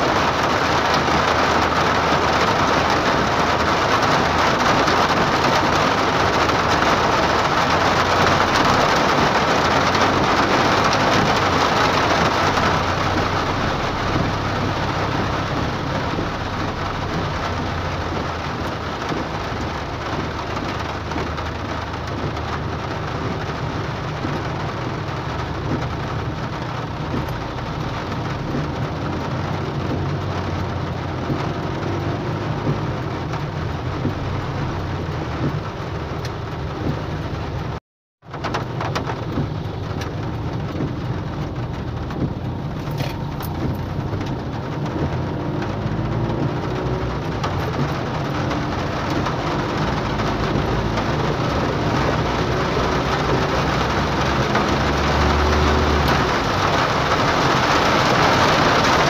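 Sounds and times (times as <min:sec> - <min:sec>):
car low rumble: 0:00.0 - 0:59.0
hard rain on a car: 0:00.0 - 0:59.0.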